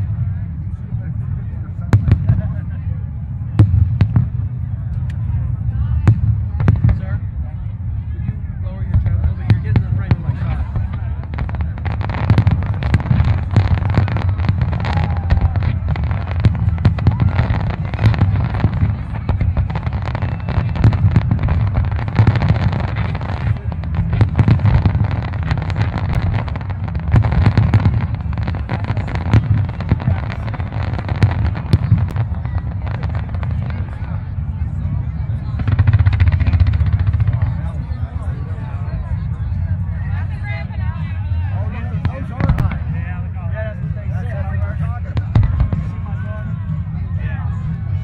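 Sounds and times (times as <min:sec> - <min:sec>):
fireworks bangs and booms: 0:01.8 - 0:48.0.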